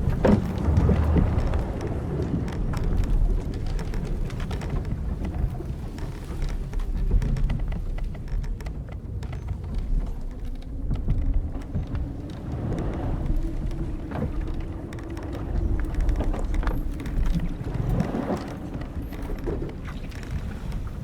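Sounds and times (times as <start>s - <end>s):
low rumble of wind and sea: 0.0s - 21.0s
ship timbers and ropes creaking: 0.0s - 21.0s
wood ticks and clicks: 0.0s - 21.0s.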